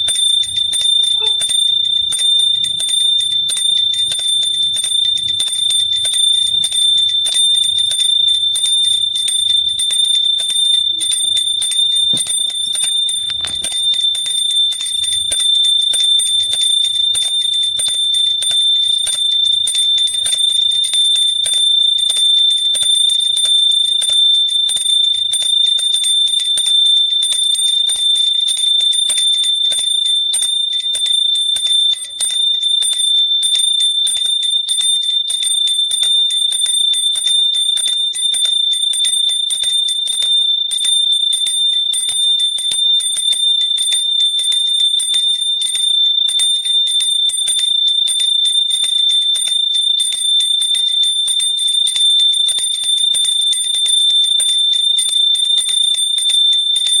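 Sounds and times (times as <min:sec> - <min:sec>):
metal hand bell ringing: 0:00.0 - 0:57.0.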